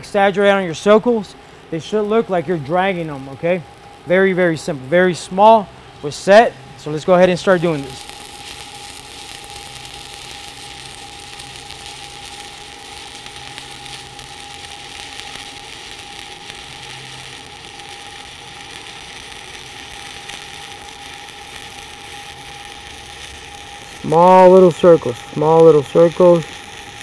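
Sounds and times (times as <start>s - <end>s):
faint high whine: 0.0s - 27.0s
welding arc crackling sizzle: 0.0s - 27.0s.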